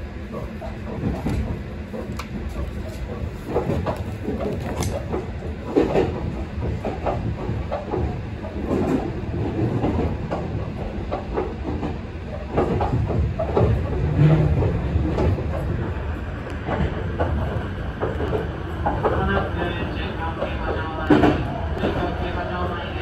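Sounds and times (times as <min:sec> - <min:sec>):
train rumbling on track: 0:00.0 - 0:23.0
wheels clacking over rail joints: 0:00.3 - 0:22.2.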